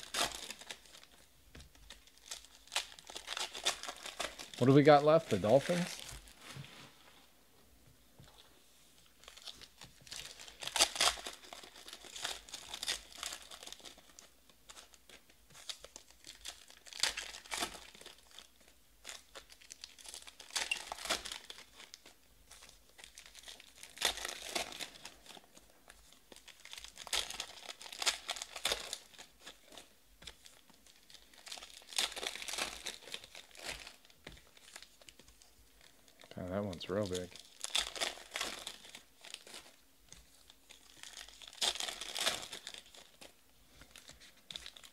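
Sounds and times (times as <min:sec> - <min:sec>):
foil wrappers tearing and crinkling: 0:00.0 - 0:06.4, 0:09.2 - 0:44.9.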